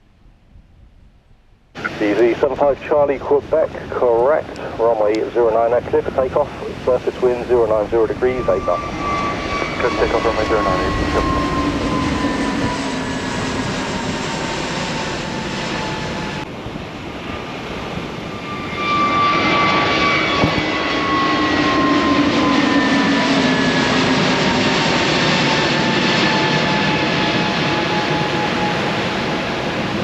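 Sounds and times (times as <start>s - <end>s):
jet engine roar with whine: 1.7s - 30.0s.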